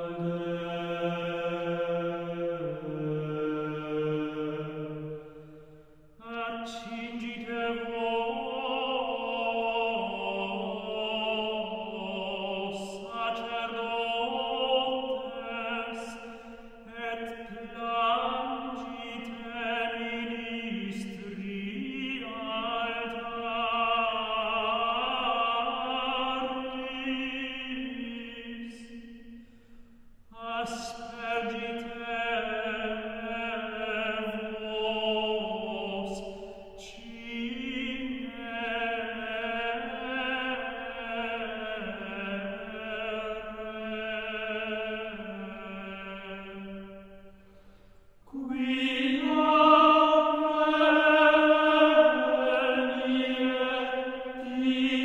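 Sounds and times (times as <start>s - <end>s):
unaccompanied chant singing: 0.0s - 5.2s, 6.2s - 29.1s, 30.3s - 47.1s, 48.3s - 55.0s.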